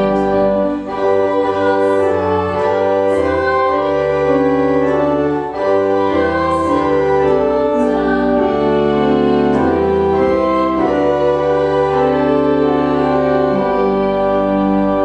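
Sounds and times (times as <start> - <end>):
church organ playing chords: 0.0 - 15.0.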